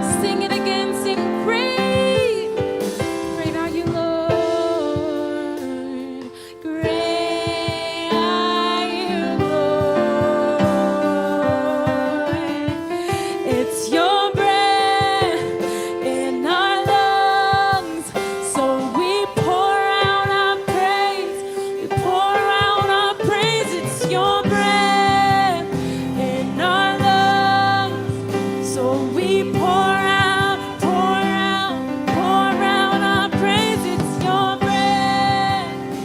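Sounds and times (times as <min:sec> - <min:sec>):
keyboard accompaniment: 0:00.0 - 0:36.0
woman singing gospel: 0:00.0 - 0:36.0.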